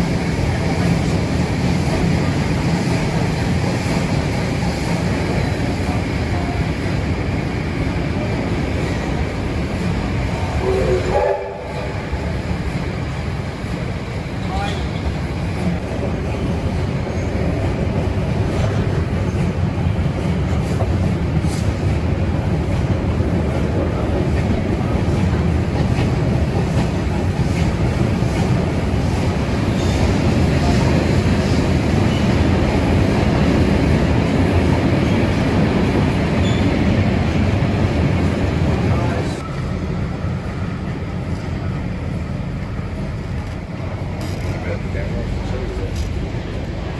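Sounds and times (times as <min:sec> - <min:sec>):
train rumbling on rails: 0:00.0 - 0:46.9
train wheels clicking: 0:00.0 - 0:46.9.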